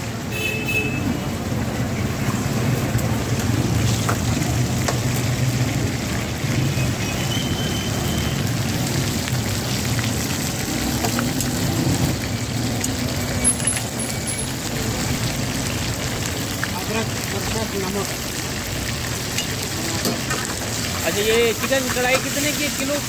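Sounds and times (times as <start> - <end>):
food sizzling in a pan: 1.0 - 23.0.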